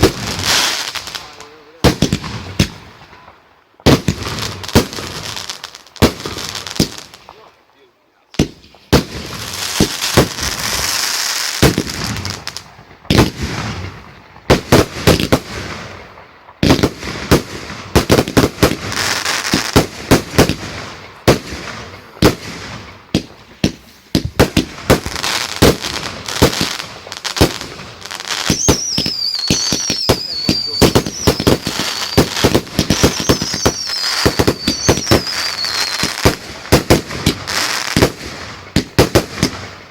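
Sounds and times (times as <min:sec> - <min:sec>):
fireworks bangs: 0:00.0 - 0:07.5, 0:08.4 - 0:39.9
fireworks crackle and hiss: 0:00.0 - 0:39.9.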